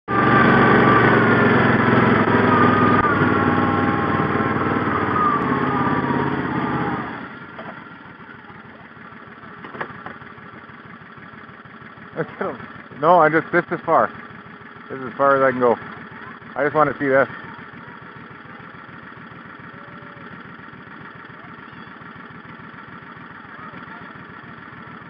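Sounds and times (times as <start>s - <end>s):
small engine running: 0.1s - 25.0s.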